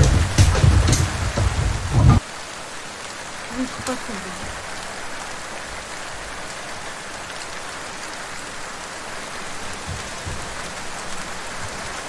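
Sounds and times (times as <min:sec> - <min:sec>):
falling water hissing: 0:00.0 - 0:12.0.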